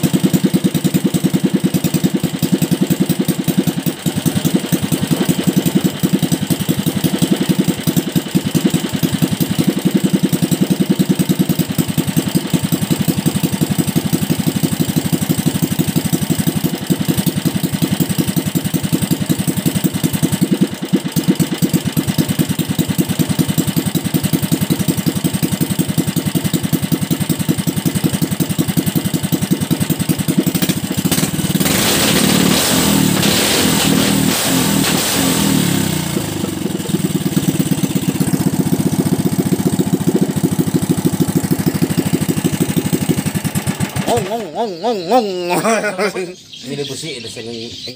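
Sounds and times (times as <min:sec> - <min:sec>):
single-cylinder engine running: 0:00.0 - 0:47.9.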